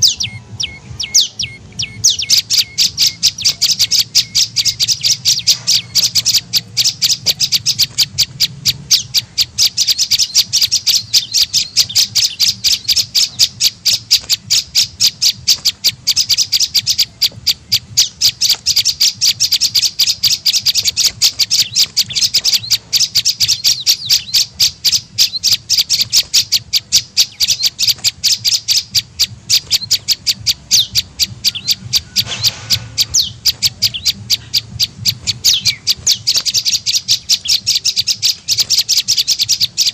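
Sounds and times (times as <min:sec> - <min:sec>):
bird calling sharp high notes: 0:00.0 - 0:39.9.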